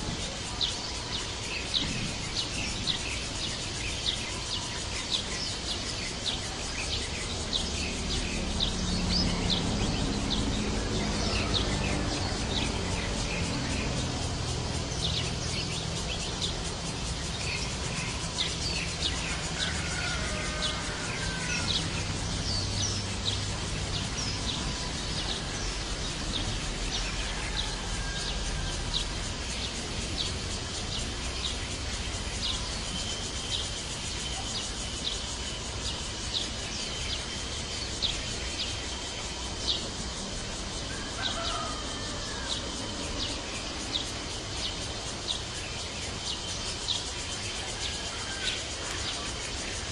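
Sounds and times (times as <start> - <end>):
outdoor background noise: 0.0 - 49.9
small birds chirping: 0.0 - 49.9.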